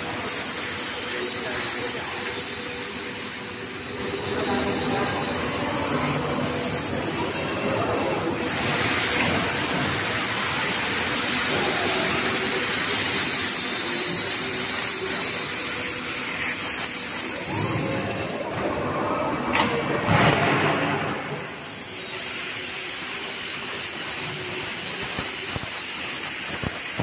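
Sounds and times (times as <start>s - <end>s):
grooving machine hissing: 0.1s - 18.4s, 21.1s - 27.0s.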